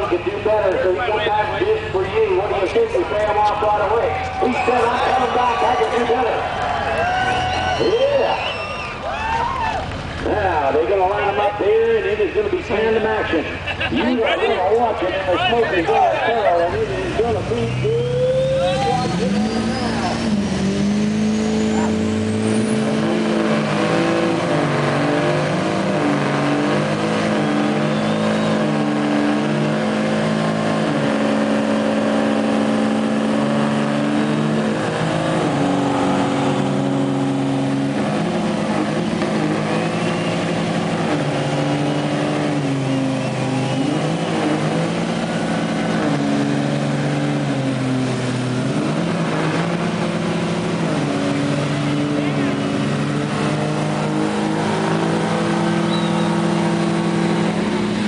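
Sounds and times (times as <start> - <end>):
diesel engine revving high: 0.0 - 58.0.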